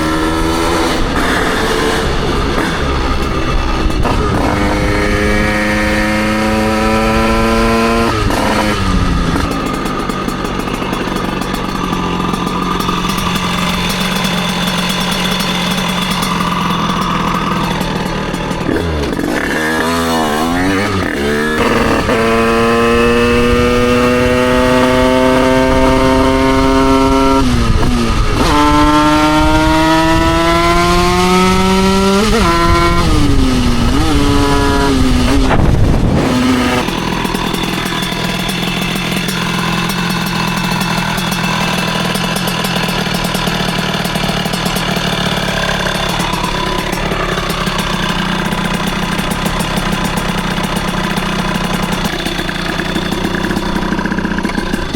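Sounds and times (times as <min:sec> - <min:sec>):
two-stroke engine revving: 0:00.0 - 0:54.9.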